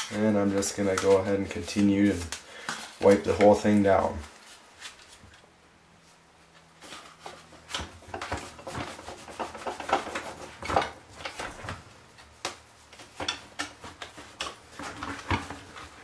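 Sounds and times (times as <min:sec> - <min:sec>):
paper towel scrubbing plastic: 0:00.0 - 0:05.4, 0:06.5 - 0:16.0.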